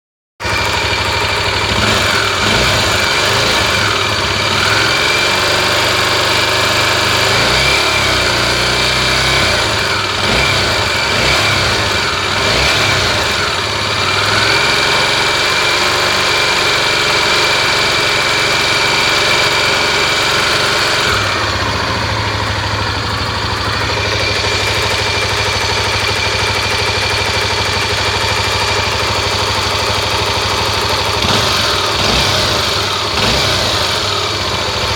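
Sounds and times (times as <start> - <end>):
car engine idling and revving: 0.4 - 34.9
high-pitched engine whine: 0.4 - 34.9.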